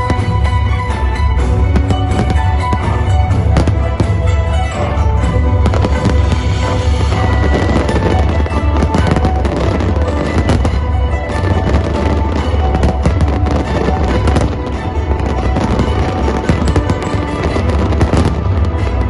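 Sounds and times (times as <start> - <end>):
fireworks bangs and crackling: 0.0 - 19.0
loud show music: 0.0 - 19.0.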